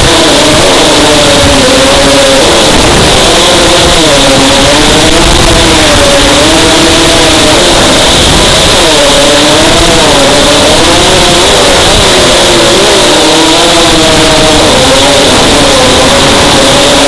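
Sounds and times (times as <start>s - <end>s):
drone motors whining: 0.0s - 17.0s
loud rushing hiss: 0.0s - 17.0s.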